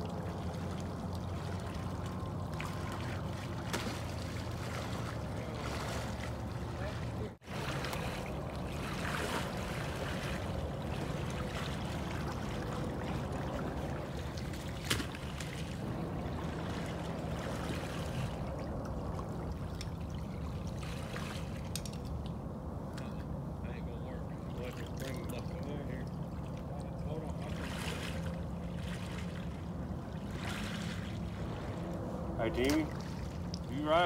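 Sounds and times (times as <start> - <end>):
water sloshing from wading: 0.0 - 34.0.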